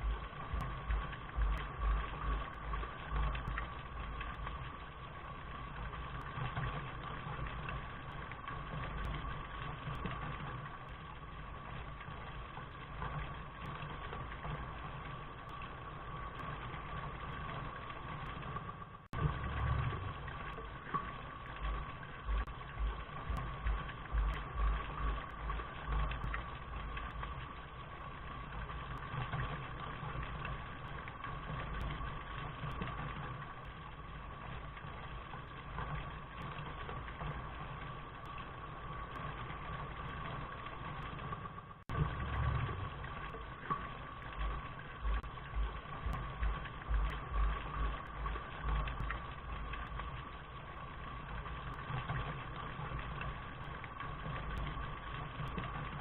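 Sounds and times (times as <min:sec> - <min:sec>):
low uneven rumble: 0:00.0 - 0:56.0
rain: 0:00.0 - 0:56.0.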